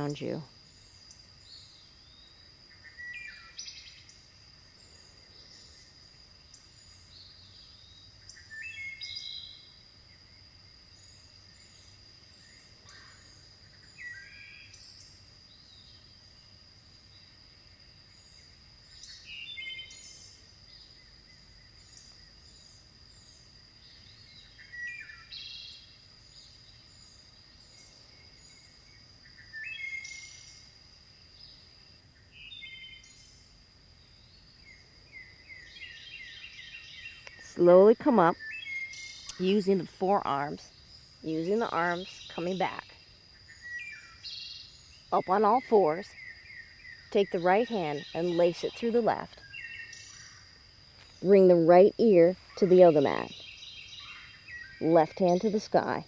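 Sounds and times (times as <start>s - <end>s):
faint bird chirps: 0.0s - 10.4s, 11.0s - 16.4s, 18.0s - 56.0s
bird singing: 0.0s - 17.4s, 18.0s - 56.0s
insect drone: 0.0s - 56.0s.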